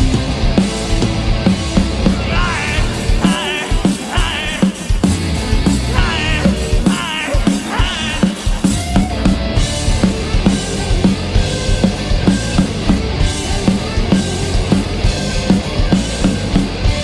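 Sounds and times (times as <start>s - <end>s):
bass and guitars: 0.0s - 17.0s
drum kit beat: 0.0s - 17.0s.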